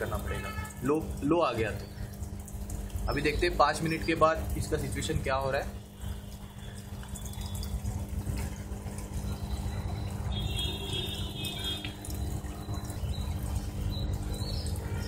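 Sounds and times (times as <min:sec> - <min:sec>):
water trickling through pipes: 0:00.0 - 0:15.0.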